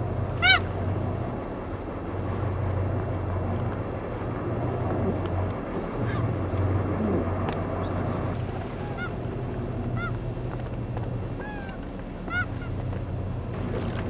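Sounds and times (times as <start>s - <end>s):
seabird calling: 0.0s - 2.4s, 5.0s - 14.0s
boat engine humming: 0.0s - 14.0s
sea noise: 0.0s - 14.0s
wind noise: 0.0s - 14.0s.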